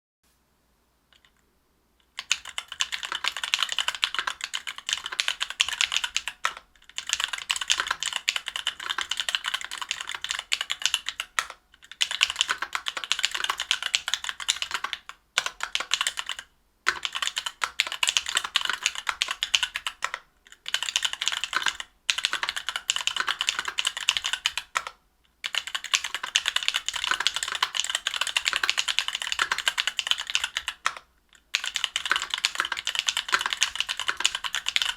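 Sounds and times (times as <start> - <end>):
mechanical keyboard typing: 2.0 - 34.9.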